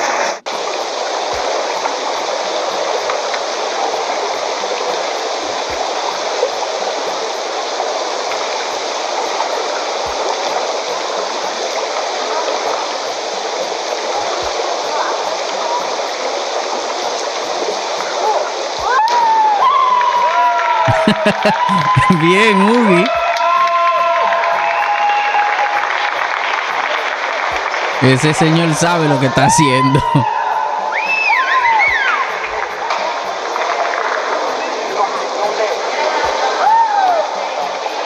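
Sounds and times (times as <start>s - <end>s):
indoor pool ambience rushing: 0.0s - 38.0s.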